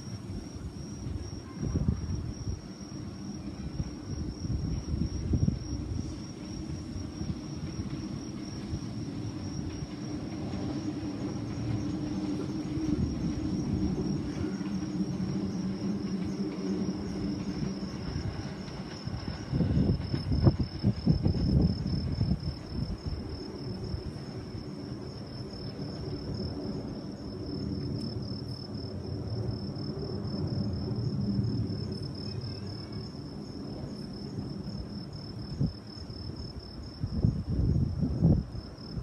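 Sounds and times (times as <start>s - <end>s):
crickets chirring: 0.0s - 39.0s
wind buffeting microphone: 0.0s - 39.0s.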